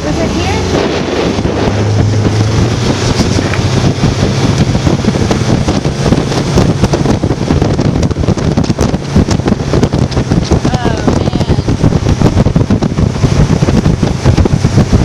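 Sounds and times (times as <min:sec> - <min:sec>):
boat engine drone: 0:00.0 - 0:15.0
water splashing on hull: 0:00.0 - 0:15.0
wind buffeting microphone: 0:00.0 - 0:15.0.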